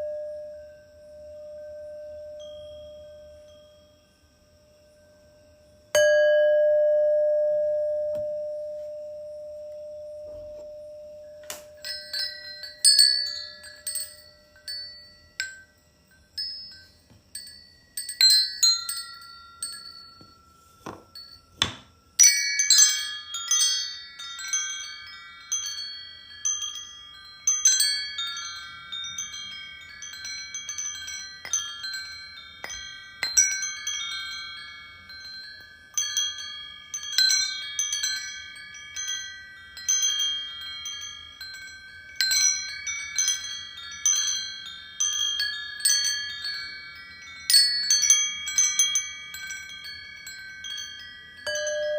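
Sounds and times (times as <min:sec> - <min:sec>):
metal wind chimes ringing: 0:00.0 - 0:51.9.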